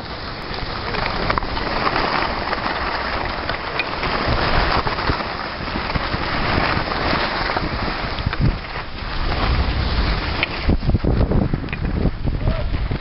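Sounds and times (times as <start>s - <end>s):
skis scraping over snow: 0.0s - 13.0s
wind on microphone: 0.0s - 13.0s.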